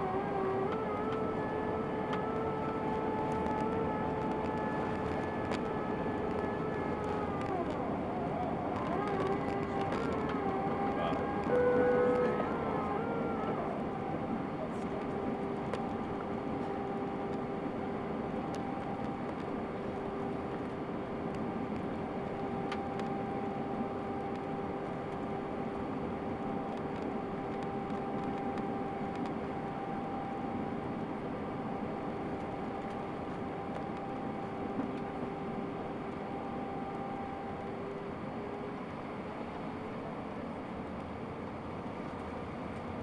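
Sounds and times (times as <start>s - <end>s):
engine hum tones: 0.0s - 43.0s.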